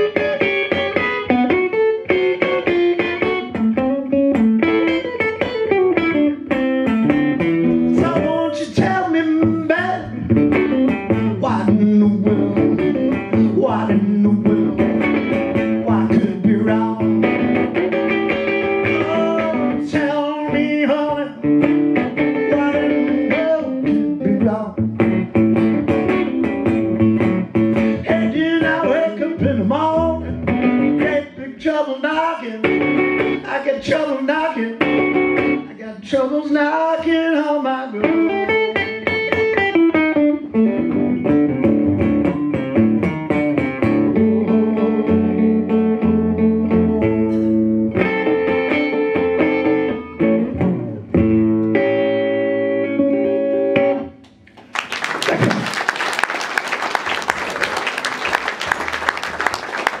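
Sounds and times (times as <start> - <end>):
blues on resonator guitar: 0.0 - 31.5, 32.6 - 34.0, 34.7 - 35.9, 37.9 - 54.2.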